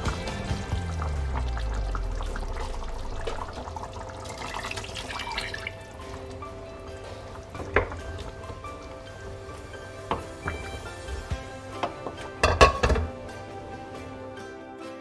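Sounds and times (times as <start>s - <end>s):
water splashing into pot: 0.0s - 13.2s
background music: 0.0s - 15.0s.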